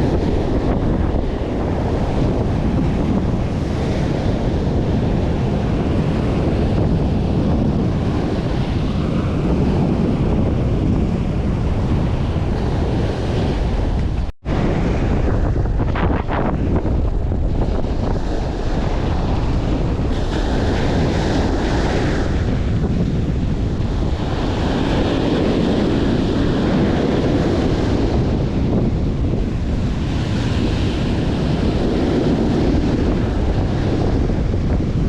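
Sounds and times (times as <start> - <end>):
surf breaking on beach: 0.0 - 35.0
wind buffeting microphone: 0.0 - 35.0.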